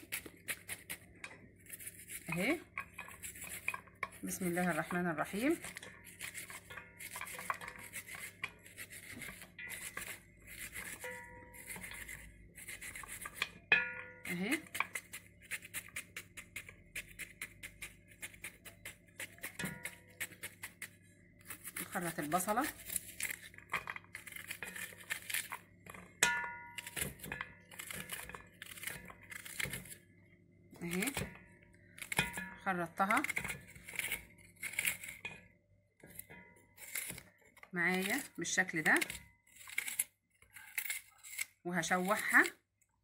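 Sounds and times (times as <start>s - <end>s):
knife slicing onion: 0.0s - 13.6s, 14.2s - 25.7s, 26.7s - 30.0s, 33.0s - 35.2s, 36.1s - 42.5s.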